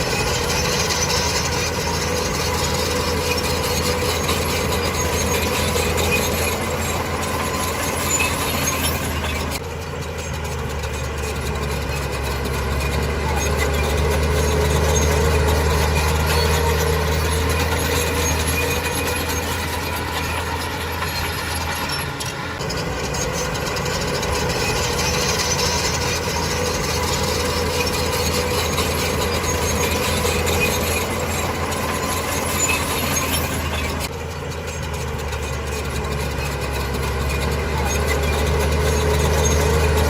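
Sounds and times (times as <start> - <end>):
heavy diesel machine running: 0.0 - 40.0
high metallic squeal: 0.0 - 40.0.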